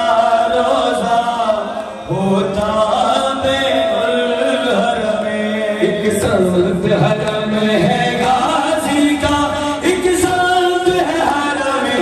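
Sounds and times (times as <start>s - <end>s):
man chanting lament: 0.0s - 12.0s.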